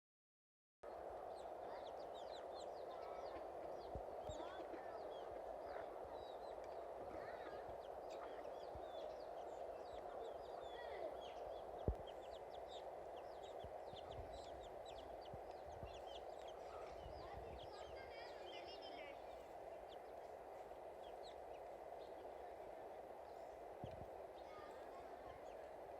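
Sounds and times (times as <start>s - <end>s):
small birds chirping: 0.8s - 25.9s
steady background noise: 0.9s - 25.9s.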